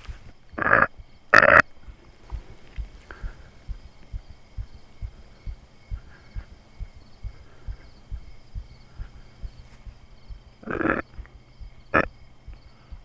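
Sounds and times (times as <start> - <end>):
faint high hum: 0.0 - 13.0
soft low rhythmic thumps: 0.0 - 13.0.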